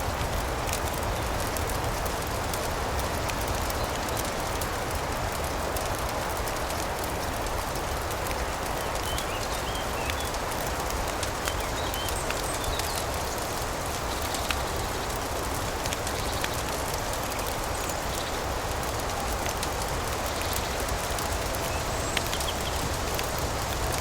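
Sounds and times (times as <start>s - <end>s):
fireplace crackling: 0.0s - 24.0s
rain rushing: 0.0s - 24.0s.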